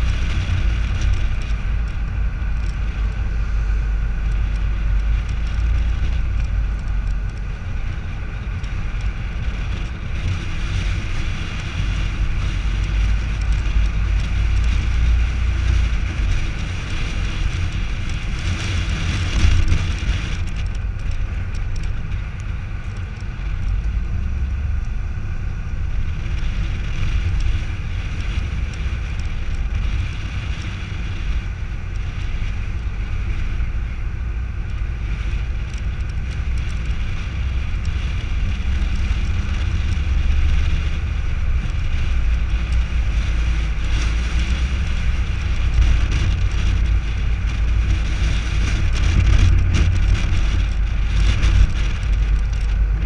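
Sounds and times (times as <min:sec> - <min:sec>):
tyre noise rumble: 0:00.0 - 0:53.0
wind on microphone: 0:00.0 - 0:53.0.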